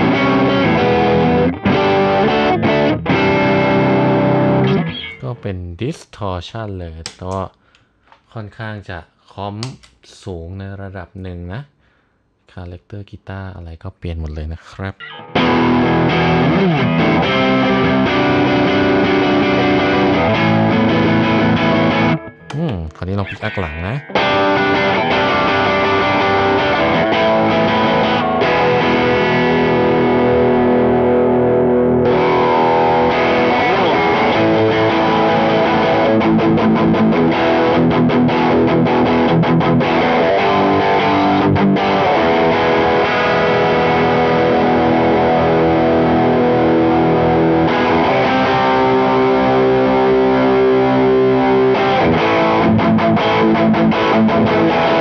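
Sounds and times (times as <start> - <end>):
distorted electric guitar: 0.0 - 5.5, 14.9 - 55.0.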